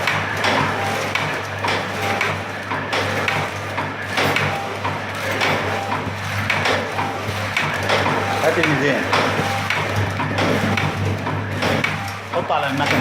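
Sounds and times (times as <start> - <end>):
machine clicks and knocks: 0.0 - 13.0
machine motor hum: 0.0 - 13.0.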